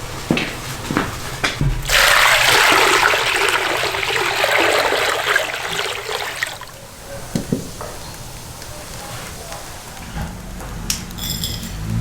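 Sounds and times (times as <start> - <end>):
water pouring and splashing: 0.0 - 10.0.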